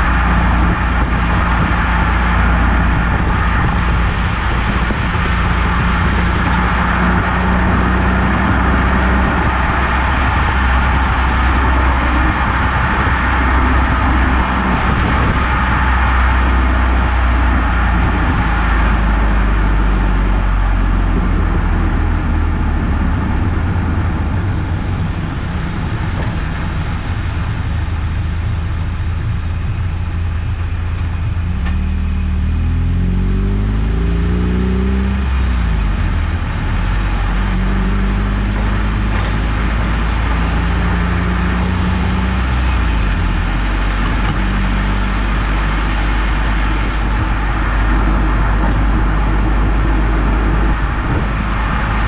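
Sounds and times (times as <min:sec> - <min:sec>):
car engine rumble: 0:00.0 - 0:52.0
road noise: 0:00.0 - 0:52.0.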